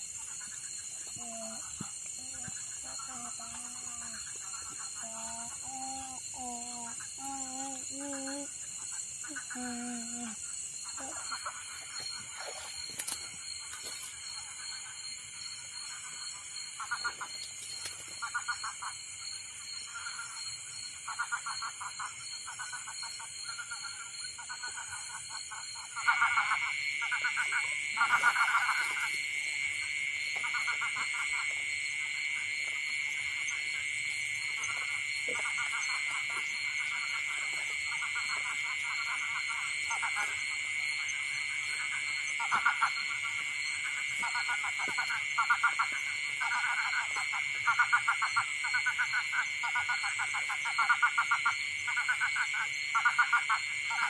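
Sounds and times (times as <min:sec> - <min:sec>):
frogs calling in pulsed bursts: 0:00.0 - 0:54.0
high insect trills: 0:00.0 - 0:54.0
loud steady insect trill: 0:00.0 - 0:54.0.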